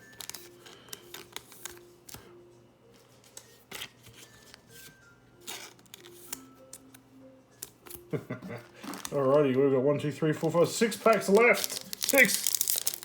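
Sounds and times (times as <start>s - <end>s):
cards rustling and clicking: 0.0s - 2.3s, 3.0s - 7.0s, 7.6s - 9.5s, 10.3s - 13.0s.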